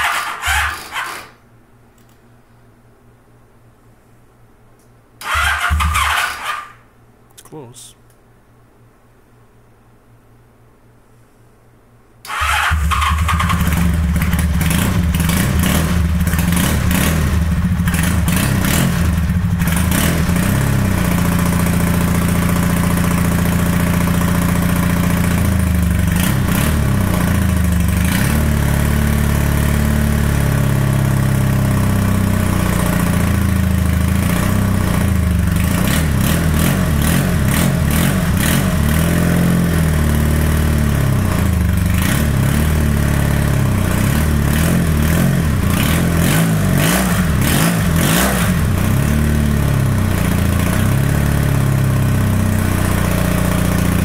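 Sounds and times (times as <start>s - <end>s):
motorcycle engine revving: 0.0s - 1.4s, 5.2s - 6.8s, 12.3s - 54.0s.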